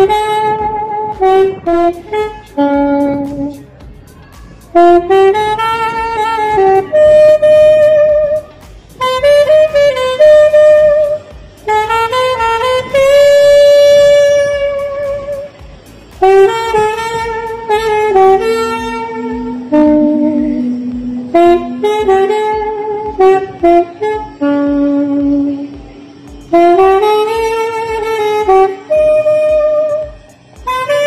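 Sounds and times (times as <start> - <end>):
alto saxophone slow melody: 0.0 - 3.6, 4.4 - 31.0.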